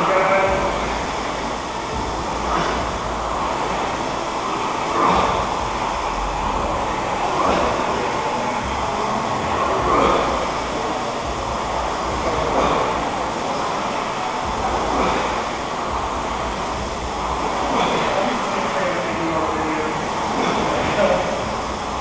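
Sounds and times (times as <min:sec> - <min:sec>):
rowing machine flywheels whooshing: 0:00.0 - 0:22.0.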